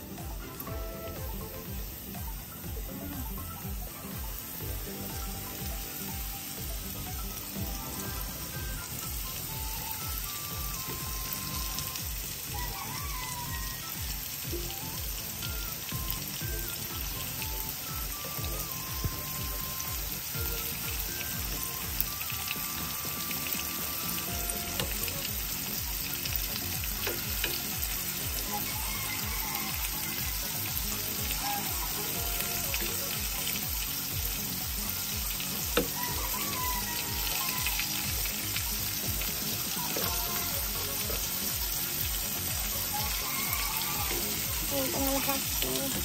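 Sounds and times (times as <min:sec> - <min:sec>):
shrimp sizzling in hot oil: 0:00.0 - 0:46.0.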